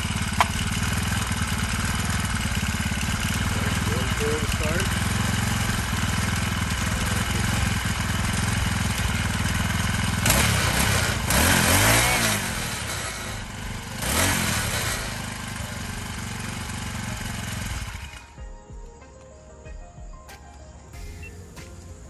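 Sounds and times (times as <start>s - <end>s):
small engine idling and revving: 0.0s - 18.4s.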